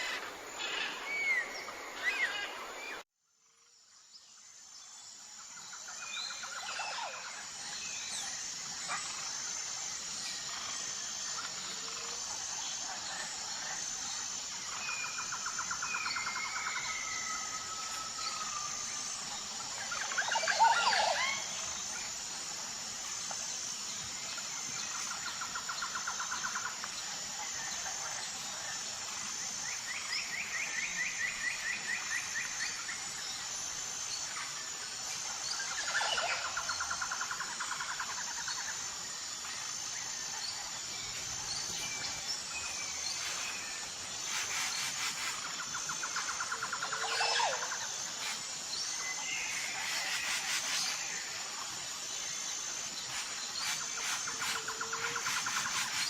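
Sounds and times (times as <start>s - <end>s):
pulsing insect chirr: 0.0s - 56.0s.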